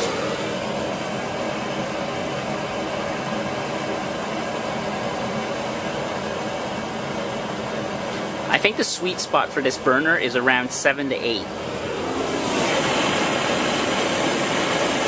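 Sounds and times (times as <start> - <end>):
gas burner hissing: 0.0 - 15.0.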